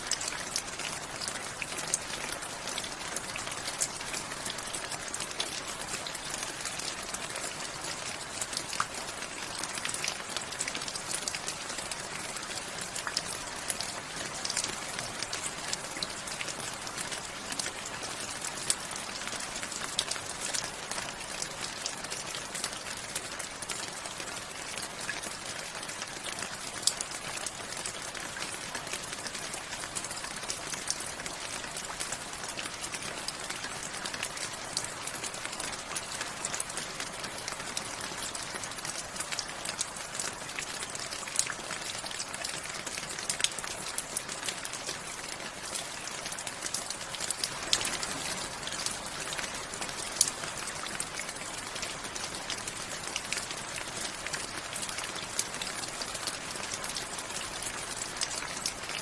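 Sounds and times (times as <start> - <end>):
raindrops ticking close by: 0.0 - 59.0.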